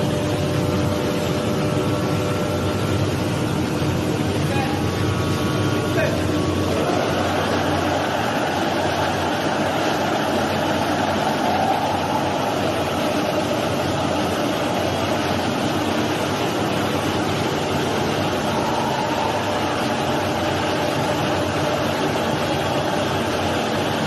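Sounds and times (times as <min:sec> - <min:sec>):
glass washing machine running: 0:00.0 - 0:24.0.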